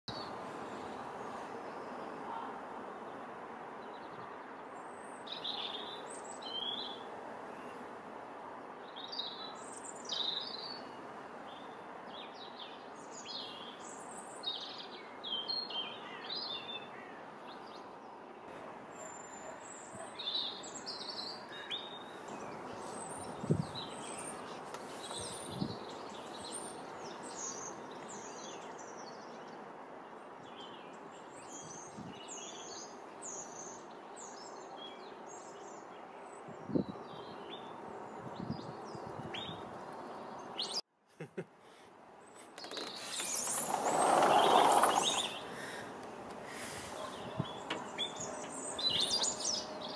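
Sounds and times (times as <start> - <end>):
songbirds chirping: 0.1 - 41.4, 42.1 - 49.9
outdoor background noise: 0.1 - 49.9.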